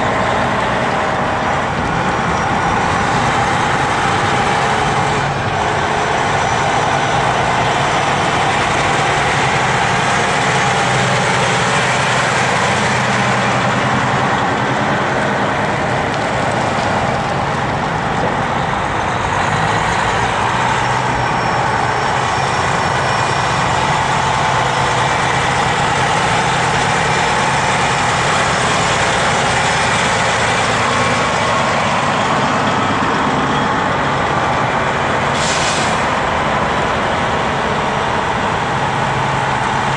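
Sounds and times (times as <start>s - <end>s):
heavy truck engines rumbling: 0.0s - 39.9s.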